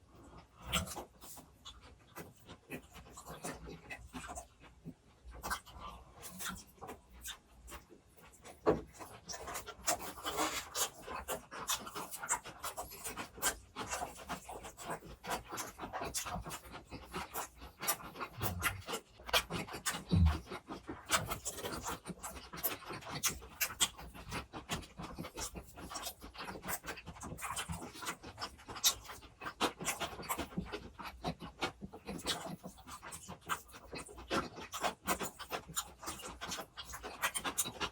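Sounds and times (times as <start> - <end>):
close chewing and mouth sounds: 0.0 - 37.9.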